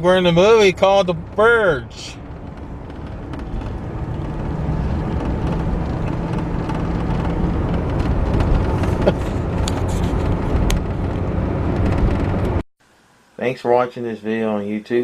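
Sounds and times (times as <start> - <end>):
car engine and tyre rumble: 0.0 - 12.6.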